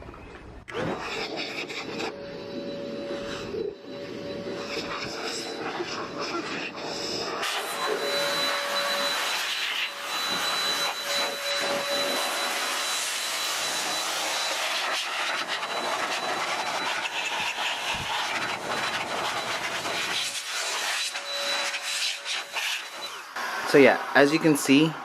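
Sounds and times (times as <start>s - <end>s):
electric blower running: 1.7s - 24.2s.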